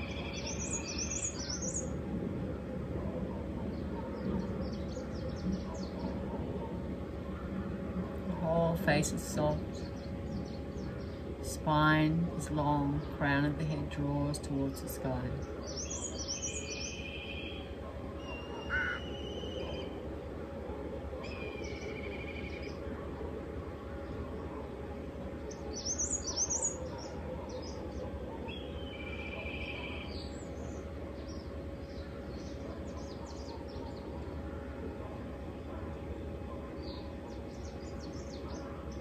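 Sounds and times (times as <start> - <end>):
birds chirping and trilling: 0.0 - 39.0
low background hum: 0.0 - 39.0.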